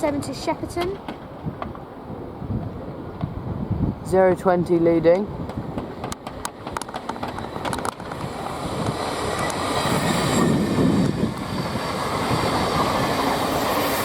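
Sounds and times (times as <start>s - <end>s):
passenger train running through: 0.0s - 14.0s.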